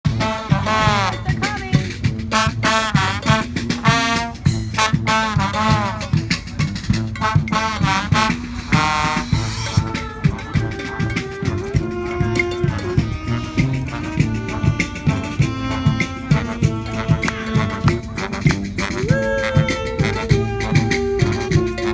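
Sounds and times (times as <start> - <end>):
brass band horns: 0.0 - 21.9
steady drum beat: 0.0 - 21.9.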